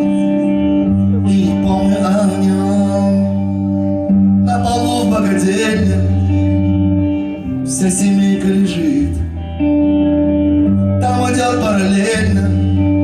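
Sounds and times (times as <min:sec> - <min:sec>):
man singing: 0:00.0 - 0:09.4, 0:10.8 - 0:13.0
live rock band playing: 0:00.0 - 0:13.0.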